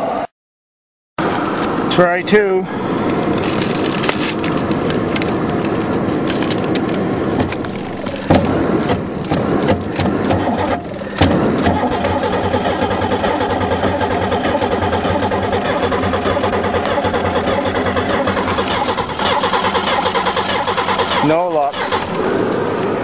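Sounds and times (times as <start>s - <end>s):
starter motor cranking engine: 1.3s - 23.0s.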